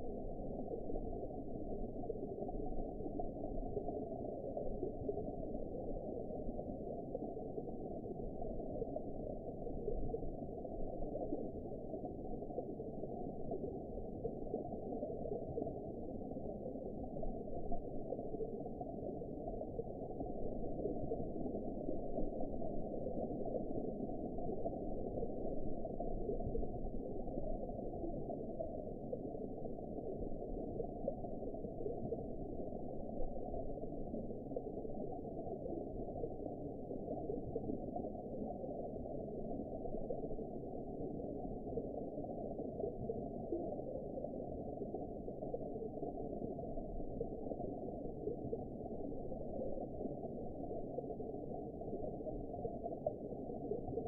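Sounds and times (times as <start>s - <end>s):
underwater rush and gurgle: 0.0s - 54.0s.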